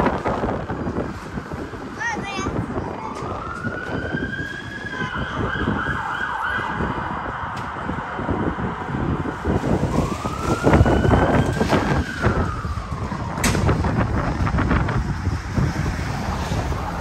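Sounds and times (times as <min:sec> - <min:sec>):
emergency siren wailing: 0:00.0 - 0:17.0
heavy street traffic: 0:00.0 - 0:17.0.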